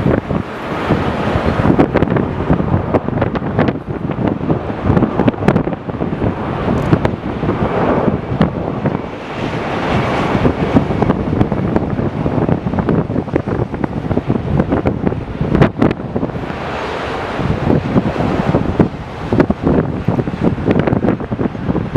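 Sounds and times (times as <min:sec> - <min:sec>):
jet engine noise: 0:00.0 - 0:21.9
wind buffeting microphone: 0:00.0 - 0:21.9.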